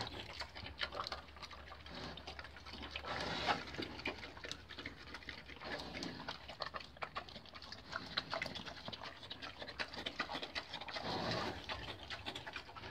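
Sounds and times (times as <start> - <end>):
pig chewing and smacking: 0.0 - 12.9.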